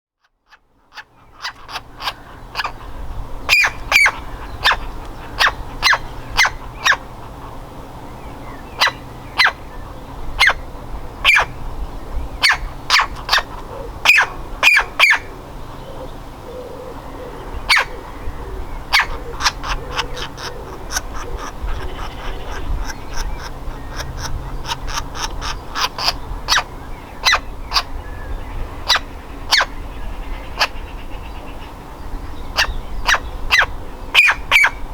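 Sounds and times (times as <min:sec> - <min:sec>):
woodpecker nestling calling: 0:00.5 - 0:34.9.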